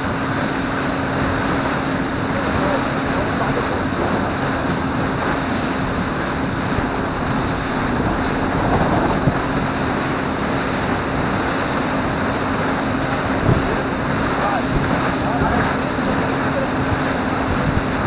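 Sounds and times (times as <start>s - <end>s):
outboard motor humming: 0.0s - 18.0s
water rushing past hull: 0.0s - 18.0s
wind buffeting microphone: 0.0s - 18.0s.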